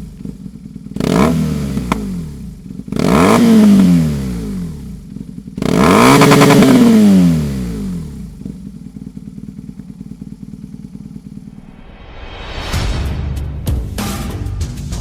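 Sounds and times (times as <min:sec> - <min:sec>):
motorcycle engine revving and idling: 0:00.0 - 0:12.9.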